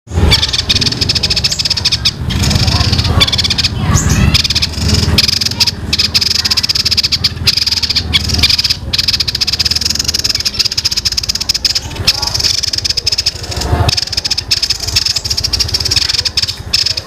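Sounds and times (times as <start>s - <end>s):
bird singing rapid rattle: 0.1s - 17.0s.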